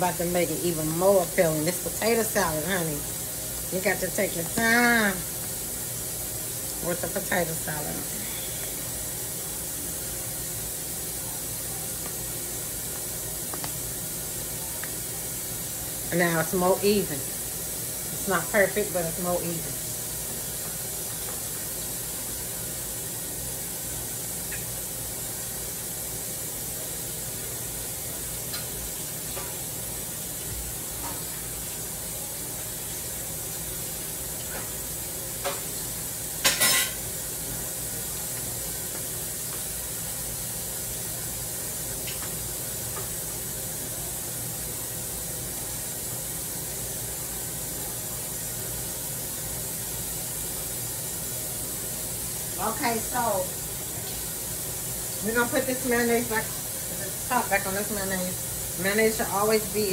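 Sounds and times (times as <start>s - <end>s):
steady kitchen hiss: 0.0s - 59.9s.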